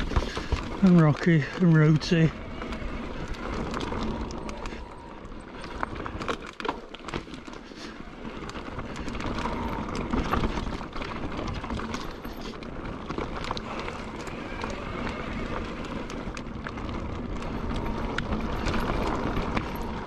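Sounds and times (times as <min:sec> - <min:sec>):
bike rattling and knocking: 0:00.0 - 0:20.0
tyres rumbling over stones: 0:00.0 - 0:20.0.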